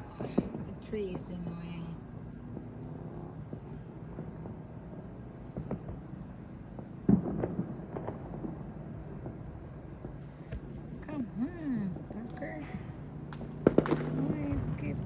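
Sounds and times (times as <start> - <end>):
distant fireworks pops and bangs: 0.0 - 15.0
steady low rumble: 0.0 - 15.0.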